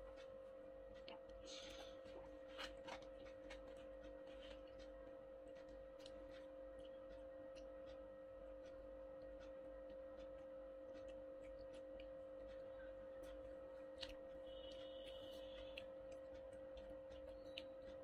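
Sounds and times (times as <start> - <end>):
steady two-tone hum: 0.0 - 18.0.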